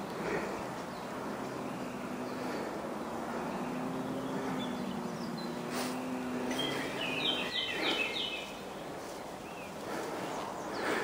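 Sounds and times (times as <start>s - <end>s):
songbird singing: 0.0s - 11.0s
woodland background hiss: 0.0s - 11.0s.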